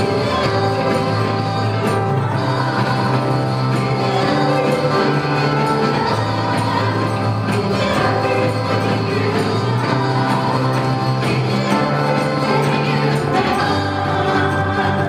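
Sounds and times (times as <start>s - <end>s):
bass holding long notes: 0.0s - 15.0s
live worship band playing: 0.0s - 15.0s.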